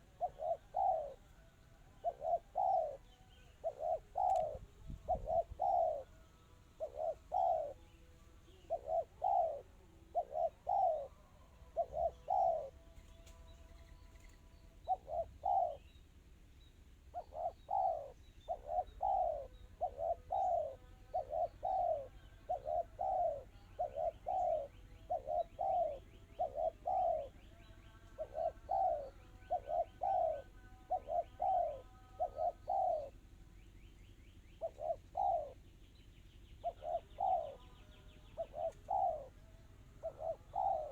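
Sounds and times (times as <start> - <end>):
dove cooing: 0.0 - 16.0, 17.0 - 33.5, 34.4 - 35.8, 36.4 - 40.9.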